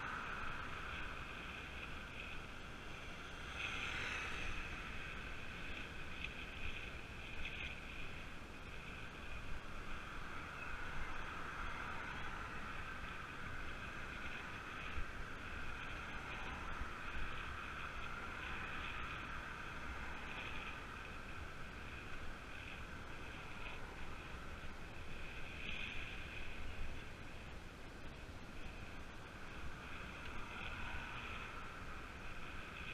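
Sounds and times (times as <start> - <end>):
tyre and road rumble: 0.0 - 32.9
wind rushing over microphone: 0.0 - 32.9.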